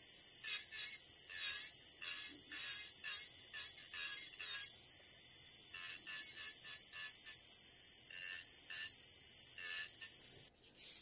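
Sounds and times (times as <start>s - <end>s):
electric nail drill whining: 0.0s - 10.5s
drill bit rasping on fingernail: 0.4s - 4.8s, 5.7s - 7.4s, 8.1s - 11.0s.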